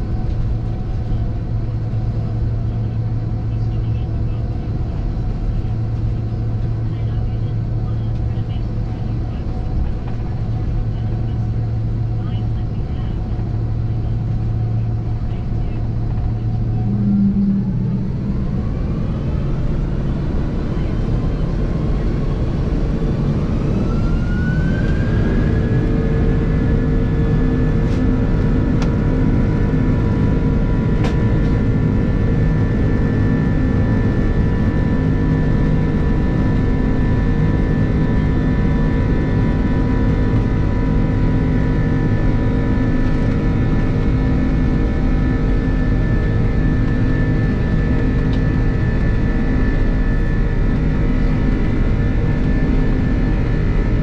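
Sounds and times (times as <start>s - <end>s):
jet engine whine: 0.0s - 54.0s
loud engine rumble in cabin: 0.0s - 54.0s.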